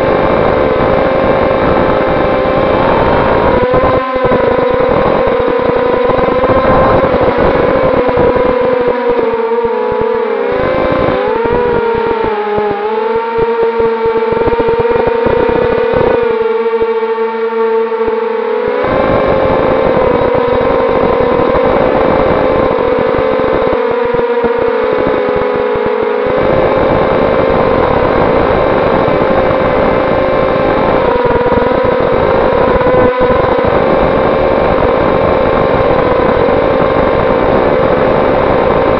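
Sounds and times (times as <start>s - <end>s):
quadcopter motors whining: 0.0s - 38.9s
rough low buzz: 0.0s - 38.9s.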